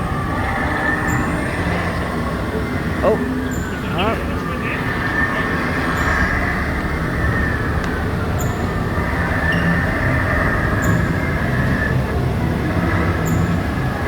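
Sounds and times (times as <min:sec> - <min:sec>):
mechanical rumble with whine: 0:00.0 - 0:14.0.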